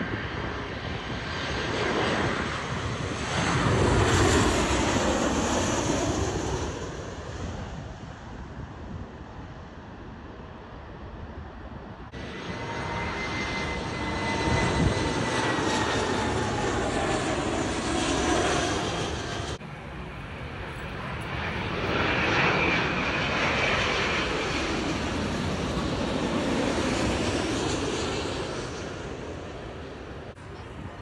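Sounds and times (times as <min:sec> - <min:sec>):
jet engines roaring: 0:00.0 - 0:09.8, 0:10.6 - 0:31.0
jet engines whining overhead: 0:00.0 - 0:31.0.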